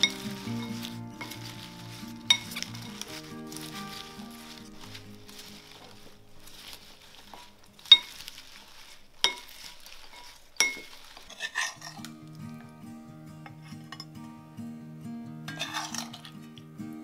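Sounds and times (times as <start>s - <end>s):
soft music: 0.0s - 10.0s, 11.3s - 17.0s
utensils clinking on glass bowl: 0.0s - 12.2s, 13.4s - 14.2s, 15.5s - 16.4s
salad leaves rustling: 0.0s - 14.0s, 15.5s - 16.6s.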